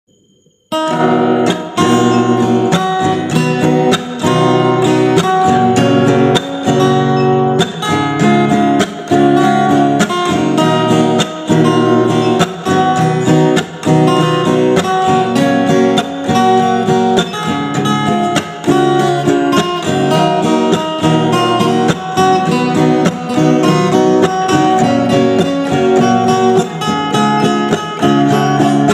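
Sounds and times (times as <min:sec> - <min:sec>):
strummed acoustic guitar: 0:00.7 - 0:28.9
acoustic band playing pop-rock: 0:00.8 - 0:28.9.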